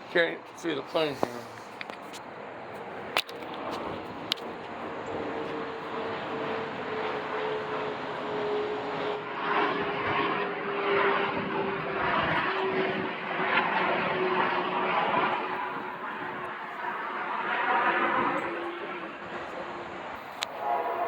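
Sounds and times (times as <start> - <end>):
airplane engine whine: 0.0 - 21.0.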